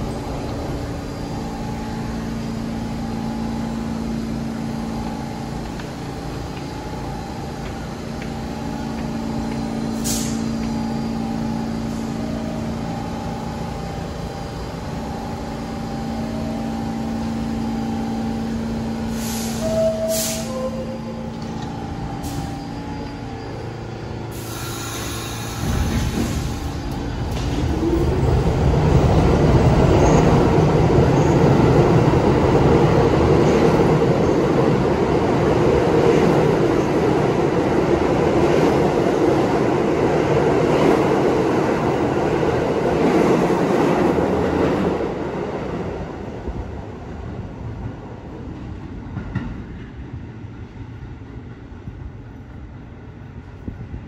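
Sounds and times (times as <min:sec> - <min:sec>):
subway train rumbling: 0:00.0 - 0:54.0.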